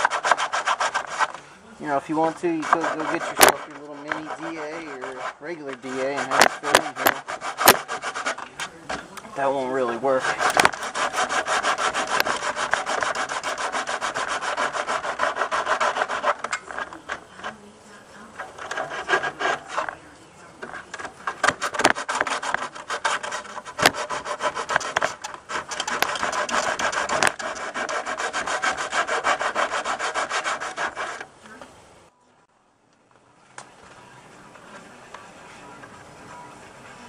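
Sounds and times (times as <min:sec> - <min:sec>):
sandpaper scrubbing fiberglass: 0:00.0 - 0:08.8, 0:09.4 - 0:31.3.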